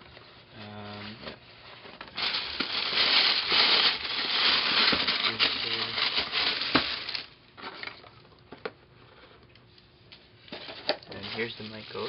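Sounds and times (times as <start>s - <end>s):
packaging rustling and crinkling: 0.1s - 8.2s, 10.4s - 12.0s.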